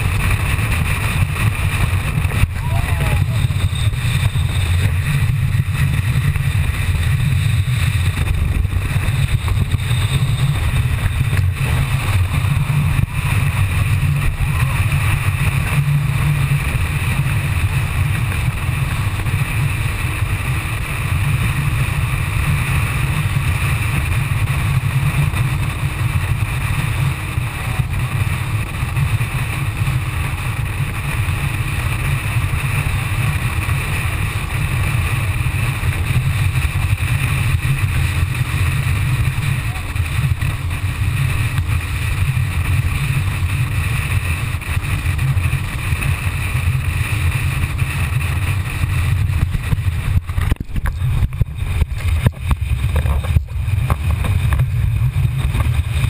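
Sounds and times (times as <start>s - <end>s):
boat engine and hull rumble: 0.0s - 56.0s.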